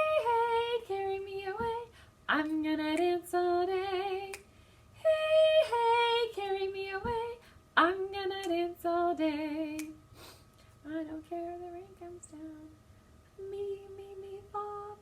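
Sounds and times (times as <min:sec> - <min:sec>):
woman singing unaccompanied: 0:00.0 - 0:10.0, 0:10.8 - 0:12.8, 0:13.4 - 0:15.0.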